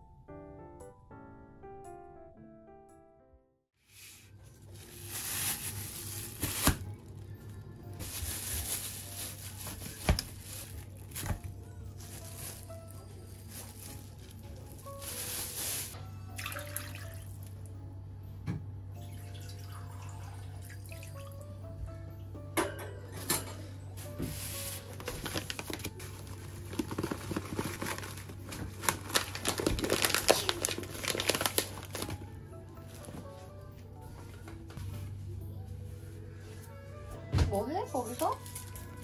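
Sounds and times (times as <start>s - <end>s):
soft background music: 0.0s - 39.0s.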